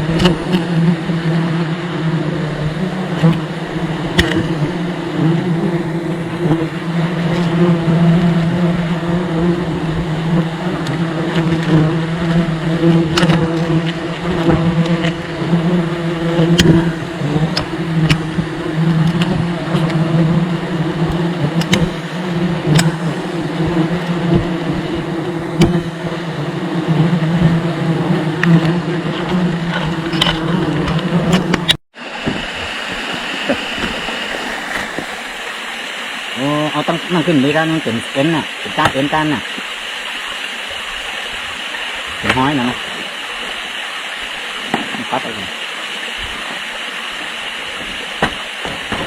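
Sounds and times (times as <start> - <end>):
honeybees buzzing: 0.0 - 49.0.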